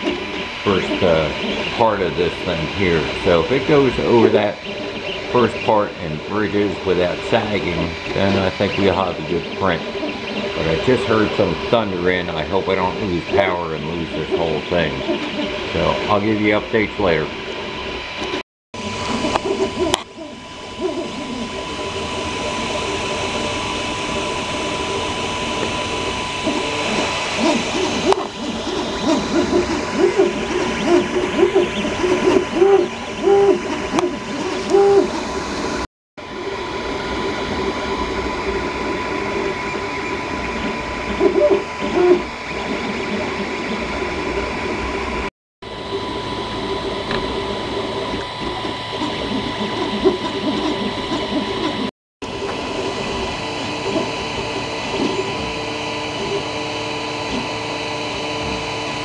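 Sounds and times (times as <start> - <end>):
fan hum: 0.0 - 59.0
machine whir with high tone: 0.0 - 59.0
stepper motors whining: 0.0 - 59.0.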